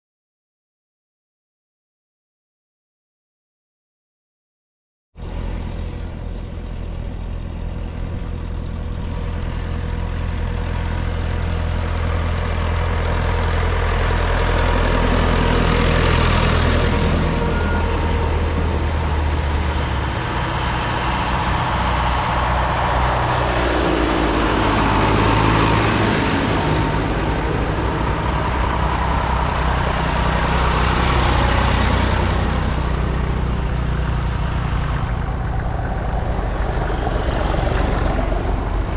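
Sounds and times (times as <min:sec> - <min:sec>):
tractor engines driving past: 0:05.2 - 0:38.9.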